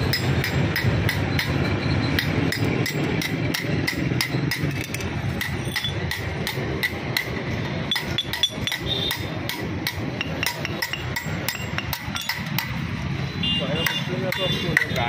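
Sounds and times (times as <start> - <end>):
hammer striking metal: 0.0 - 13.0, 13.8 - 15.0.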